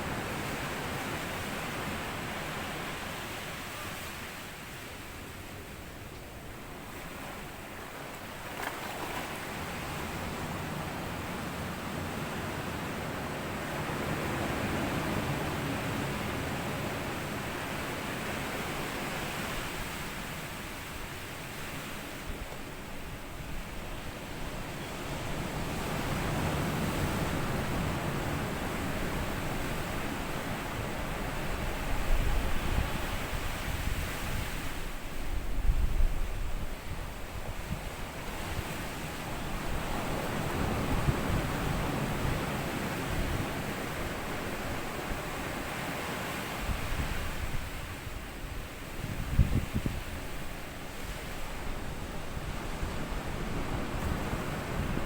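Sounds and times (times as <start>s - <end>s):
waves washing onto sand: 0.0s - 55.0s.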